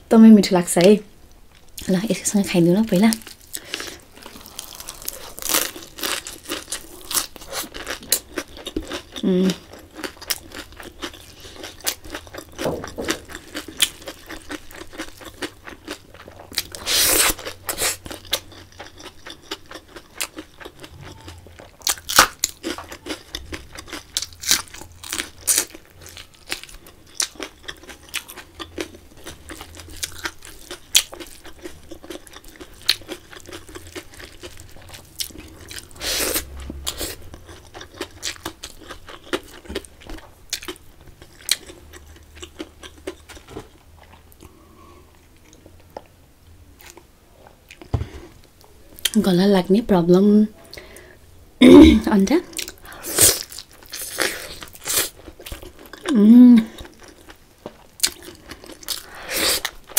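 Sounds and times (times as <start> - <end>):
crunchy chewing: 3.1 - 46.1, 52.5 - 59.9.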